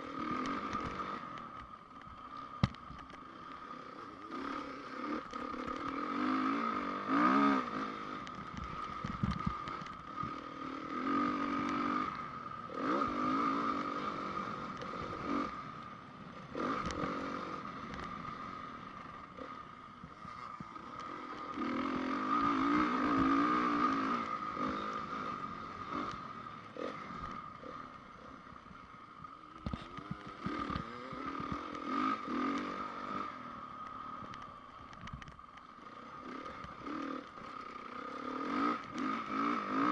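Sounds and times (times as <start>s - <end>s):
motocross bike engine revving: 3.3s - 34.7s, 35.7s - 39.9s.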